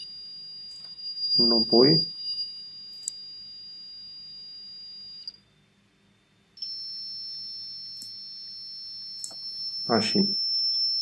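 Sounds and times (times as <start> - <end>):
buzzer high-pitched tone: 0.0 - 5.3, 6.6 - 11.0.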